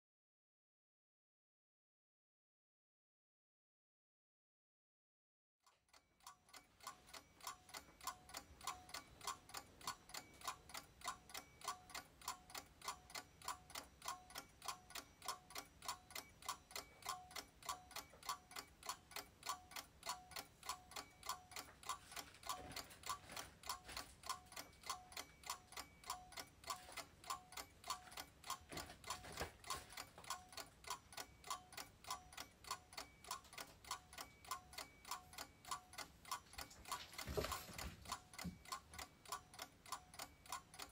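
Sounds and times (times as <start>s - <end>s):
clock ticking: 5.6s - 40.9s.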